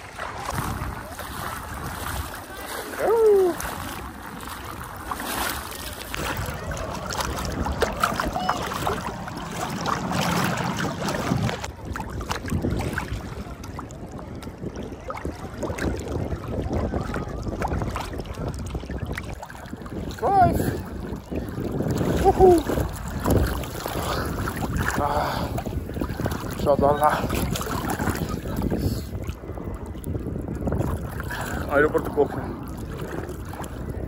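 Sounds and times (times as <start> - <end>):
sea water washing: 0.0 - 34.0
wind buffeting microphone: 0.0 - 34.0.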